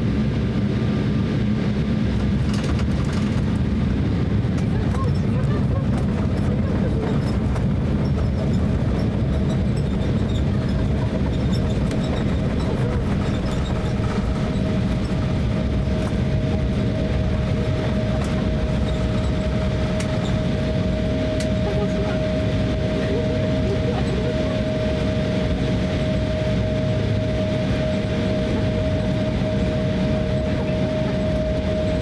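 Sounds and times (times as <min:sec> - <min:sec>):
jet engine noise: 0:00.0 - 0:32.0
steady whine: 0:00.0 - 0:32.0
landing gear rumbling on runway: 0:00.1 - 0:32.0.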